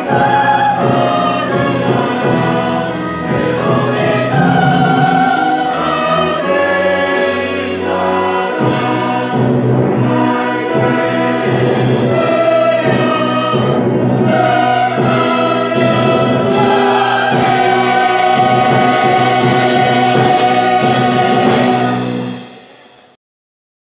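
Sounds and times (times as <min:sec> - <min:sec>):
orchestra strings and brass: 0:00.0 - 0:23.1
choir singing: 0:00.0 - 0:23.2.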